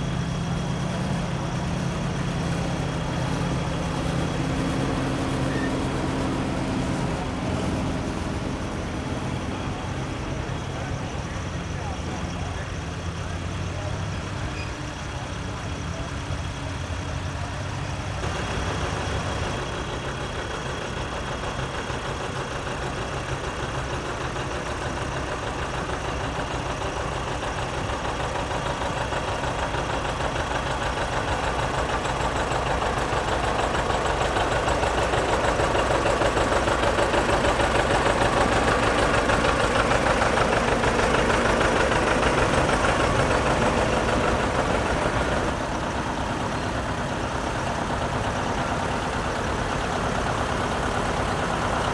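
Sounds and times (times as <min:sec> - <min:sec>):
tractor engine chugging: 0:00.0 - 0:51.9.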